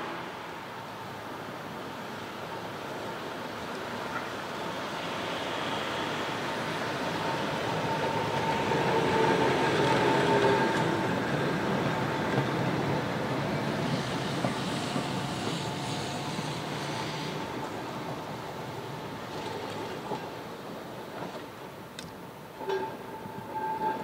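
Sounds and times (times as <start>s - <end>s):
tram rolling on rails: 0.0s - 24.0s.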